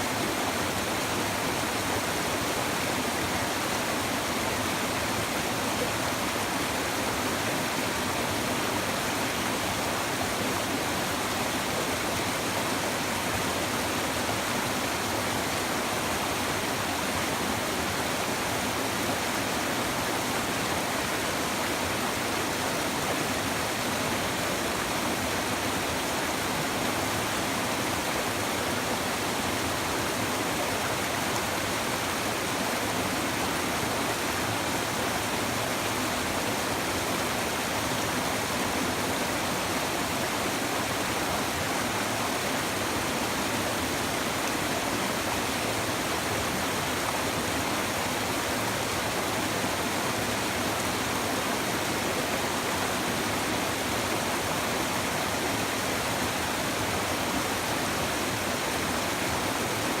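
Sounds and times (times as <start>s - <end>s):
river water flowing over stones: 0.0s - 60.0s.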